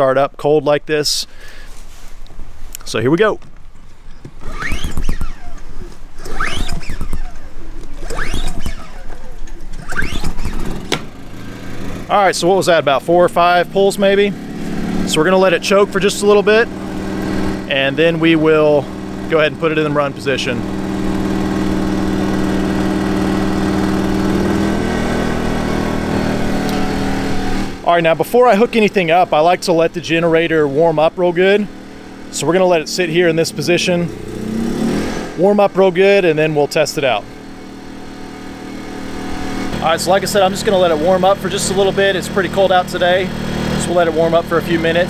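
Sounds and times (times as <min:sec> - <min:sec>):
generator pull-starter whirring: 0:01.4 - 0:45.0.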